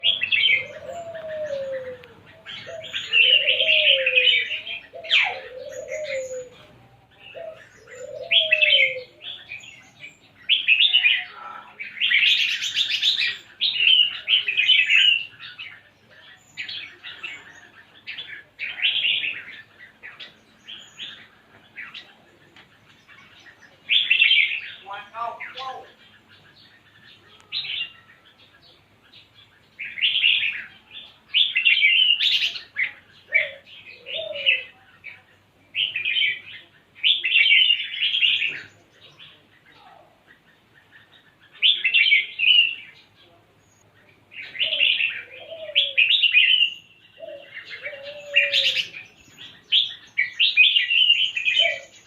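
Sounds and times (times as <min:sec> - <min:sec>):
bird chattering song: 0:00.0 - 0:52.0.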